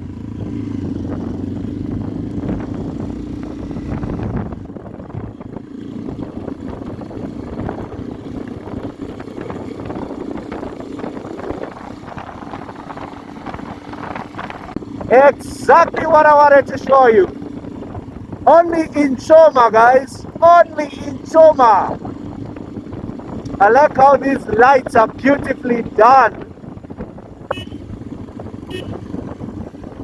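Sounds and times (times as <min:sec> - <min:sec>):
motorcycle engine running: 0:00.0 - 0:19.5, 0:20.2 - 0:30.0.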